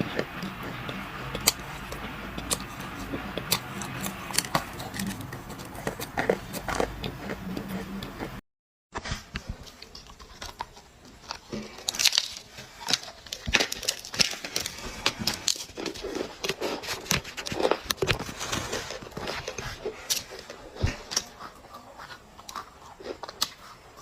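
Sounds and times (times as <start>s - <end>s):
dry clay crunching: 0.0s - 8.4s, 9.1s - 24.0s.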